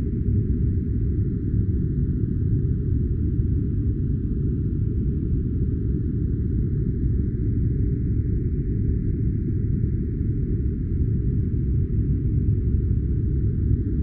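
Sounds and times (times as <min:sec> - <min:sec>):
muffled white noise rumble-hiss: 0:00.0 - 0:14.0.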